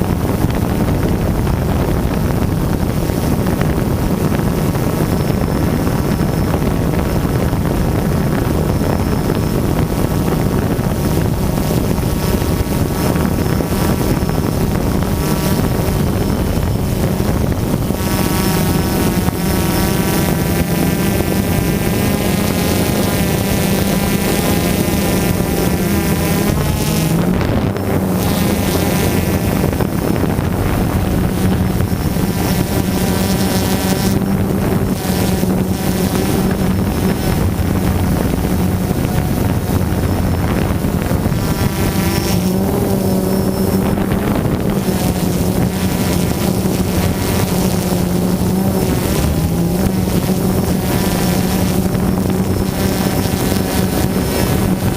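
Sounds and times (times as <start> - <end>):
drone propellers humming: 0.0 - 54.9
high whining tones: 0.0 - 54.9
wind noise on microphone: 0.0 - 54.9.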